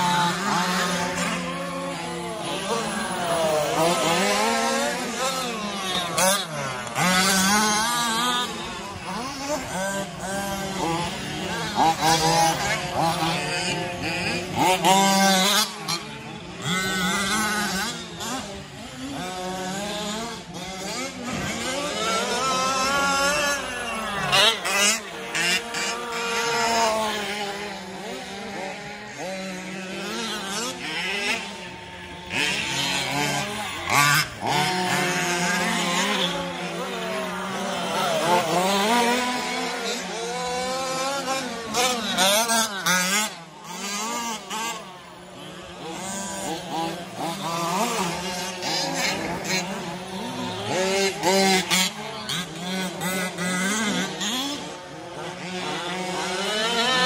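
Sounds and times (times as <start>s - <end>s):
rc truck motors whining: 0.0s - 57.0s.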